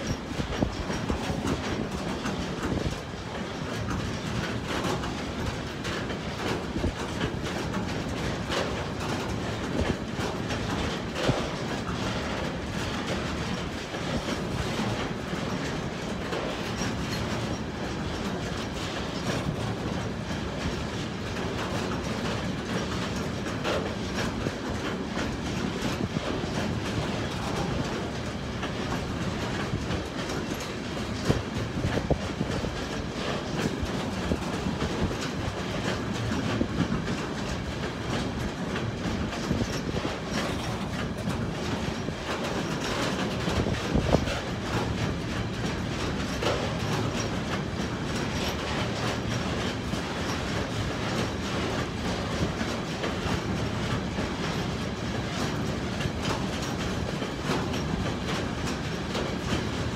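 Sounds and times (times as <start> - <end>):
freight train rumble: 0.0 - 59.9
train wheel clicks: 0.0 - 59.9.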